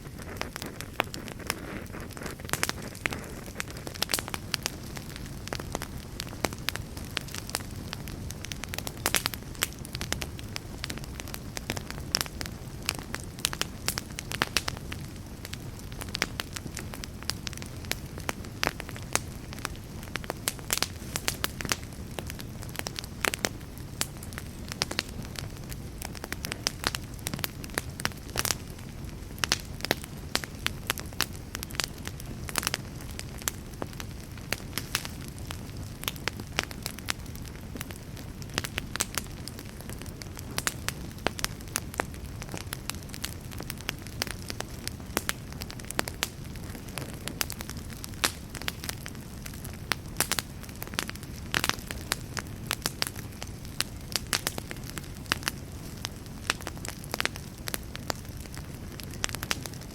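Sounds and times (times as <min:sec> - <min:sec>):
burning wood crackling and popping: 0:00.0 - 0:59.9
low roar of flames: 0:00.0 - 0:59.9.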